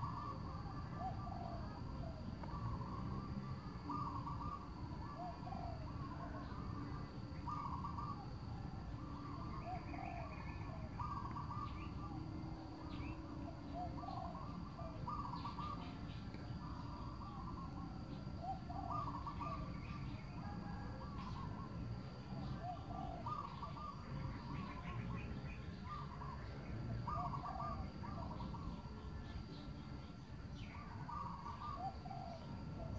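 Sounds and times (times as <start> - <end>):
bird calling: 0.0 - 32.9
faint high whine: 0.0 - 32.9.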